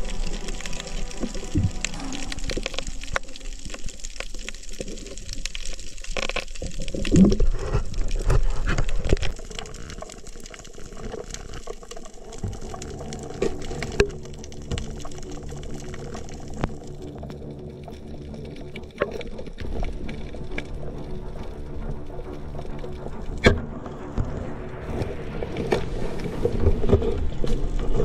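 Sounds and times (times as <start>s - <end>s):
water sloshing and bubbling: 0.0s - 28.0s.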